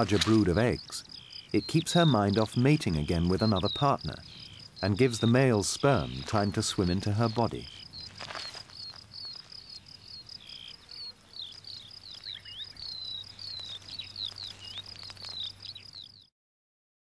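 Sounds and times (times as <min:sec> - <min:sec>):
crickets chirping: 0:00.0 - 0:16.3.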